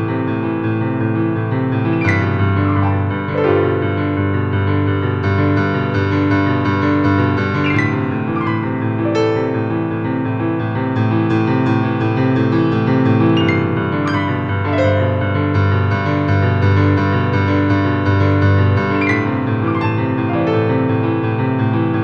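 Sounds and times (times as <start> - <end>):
background piano music: 0.0 - 22.0.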